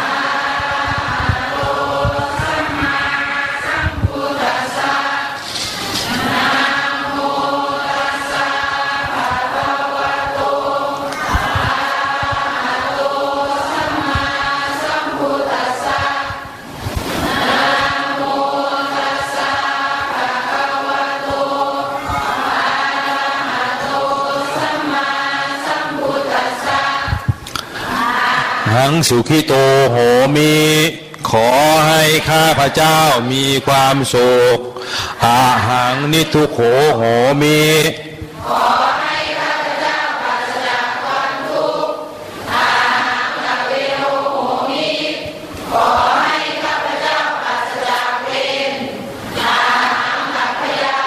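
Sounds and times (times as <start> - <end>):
group of voices chanting: 0.0 - 29.2, 38.4 - 51.0.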